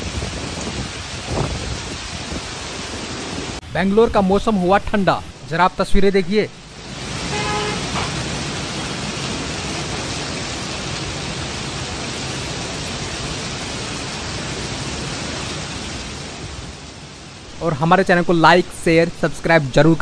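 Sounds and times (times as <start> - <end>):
heavy rain on wet street: 0.0 - 3.7, 6.5 - 20.0.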